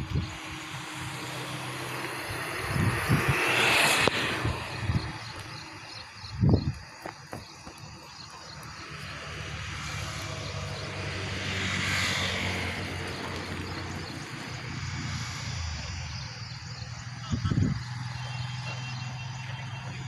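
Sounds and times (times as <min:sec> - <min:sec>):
passing engine hum: 0:00.0 - 0:20.0.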